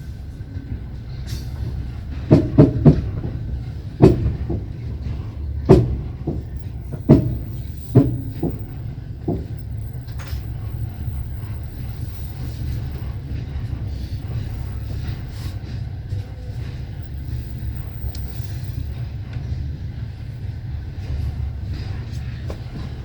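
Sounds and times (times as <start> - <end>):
low rumble of train carriage: 0.0 - 23.0
train wheels clacking over rail joints: 0.0 - 23.0.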